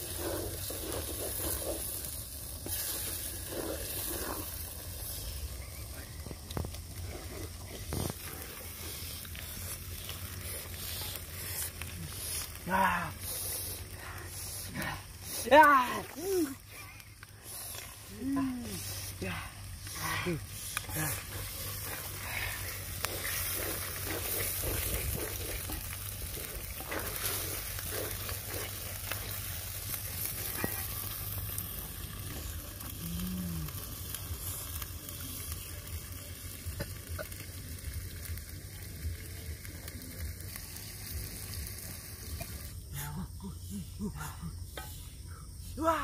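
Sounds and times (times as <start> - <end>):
food sizzling in oil: 0.0 - 42.9.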